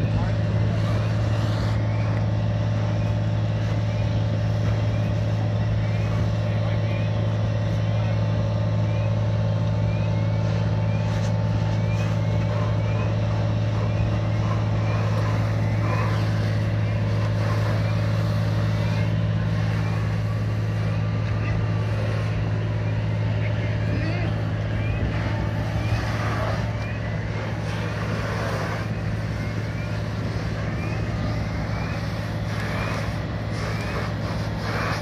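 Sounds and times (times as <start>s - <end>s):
diesel engine running steadily: 0.0s - 35.0s.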